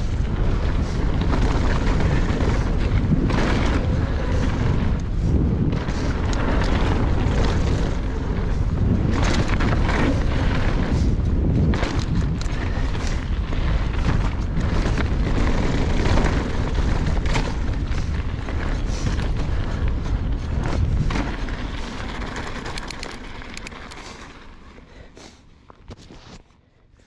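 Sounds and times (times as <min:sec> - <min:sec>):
wind buffeting microphone: 0:00.0 - 0:24.2
bike rattling and clicking: 0:00.0 - 0:27.0
bike tyres on gravel: 0:00.0 - 0:27.0.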